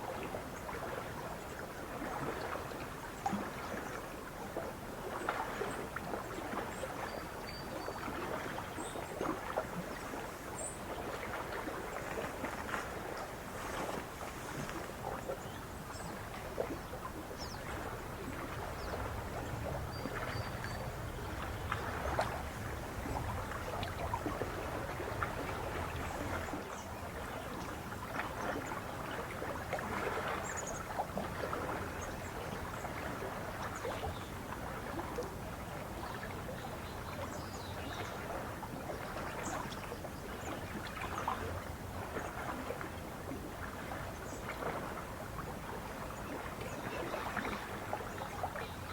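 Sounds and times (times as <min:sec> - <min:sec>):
lake water lapping and splashing: 0:00.0 - 0:48.9.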